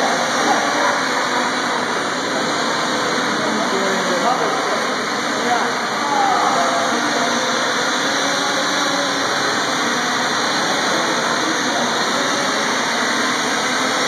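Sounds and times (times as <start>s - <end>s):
quadcopter hovering whir: 0.0s - 14.0s.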